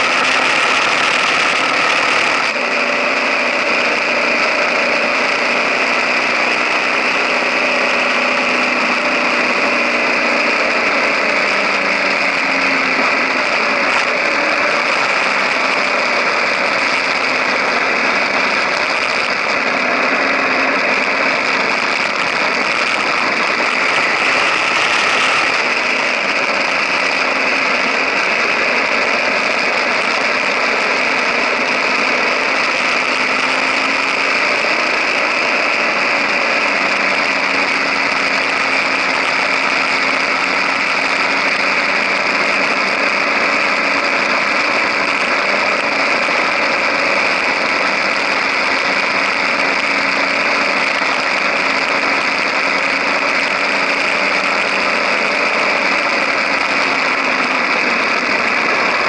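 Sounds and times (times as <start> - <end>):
motorcycle engine running: 0.0 - 59.0
tyre and road noise: 0.0 - 59.0.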